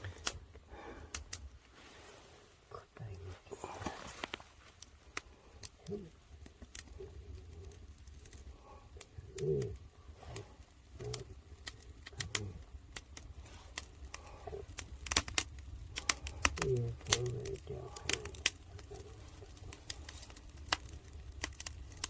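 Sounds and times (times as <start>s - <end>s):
sharp clicks and crackles: 0.0s - 1.7s, 3.6s - 22.0s
steady low rumble: 0.0s - 22.0s.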